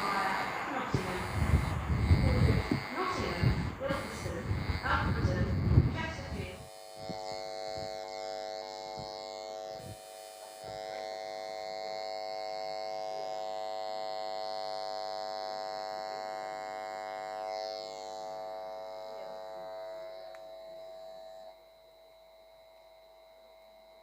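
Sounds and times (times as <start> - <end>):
electrical buzz: 0.0 - 24.0.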